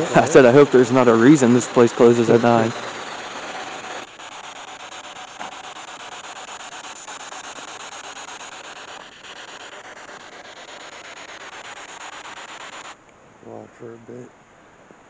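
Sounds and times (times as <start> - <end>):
pulsing radio static hiss: 0.0 - 14.3.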